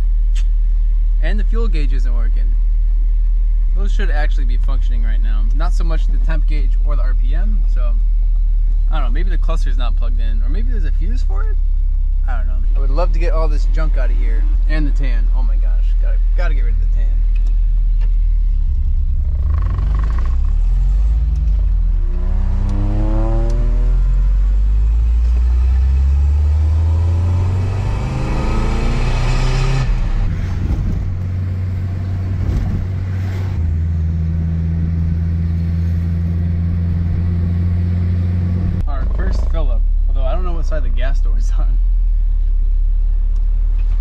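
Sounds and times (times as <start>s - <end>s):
car engine accelerating: 0.0s - 44.0s.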